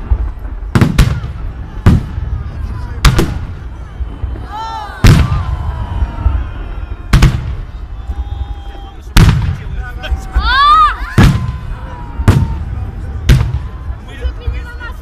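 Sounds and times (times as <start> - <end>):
fireworks booming: 0.0 - 14.8.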